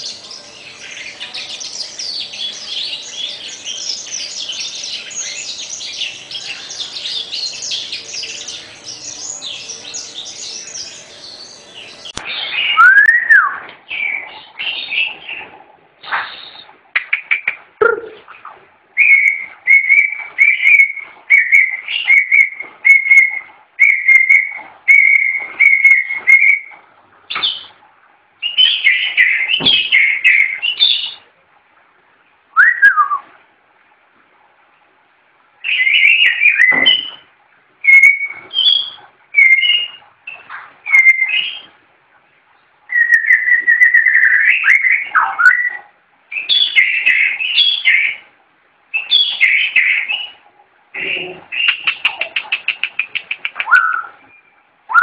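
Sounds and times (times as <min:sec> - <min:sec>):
bird singing whistled song: 0:00.0 - 0:15.4, 0:19.0 - 0:27.7, 0:28.4 - 0:31.2, 0:32.5 - 0:33.3, 0:35.6 - 0:41.7, 0:42.9 - 0:48.2, 0:48.9 - 0:50.4, 0:51.2 - 0:55.0.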